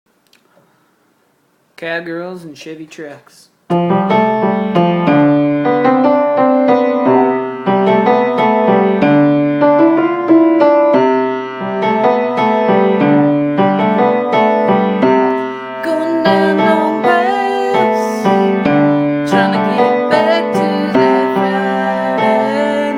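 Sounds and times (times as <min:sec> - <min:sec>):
piano music: 0:03.7 - 0:22.9.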